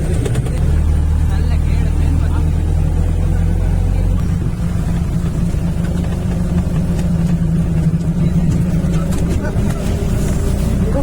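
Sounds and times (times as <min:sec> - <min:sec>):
vehicle engine drone: 0:00.0 - 0:11.0.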